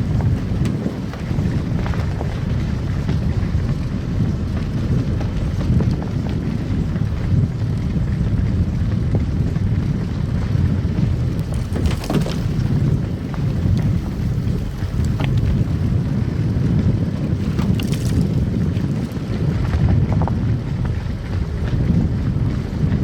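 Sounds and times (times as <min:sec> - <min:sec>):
car tyres and engine rumble: 0:00.0 - 0:23.0.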